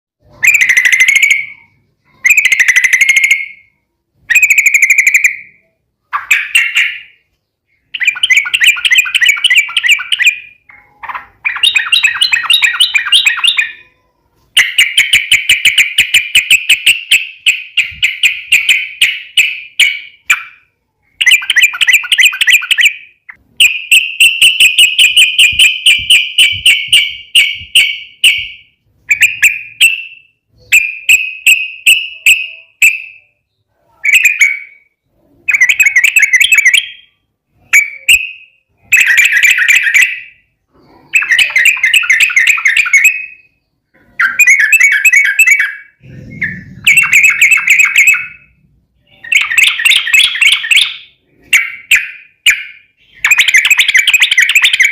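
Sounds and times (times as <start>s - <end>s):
bulbul singing trills: 0.2s - 54.9s.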